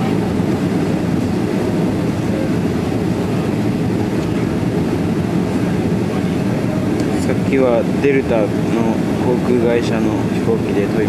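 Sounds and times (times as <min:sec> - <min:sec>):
jet engines rumbling at low power: 0:00.0 - 0:11.0.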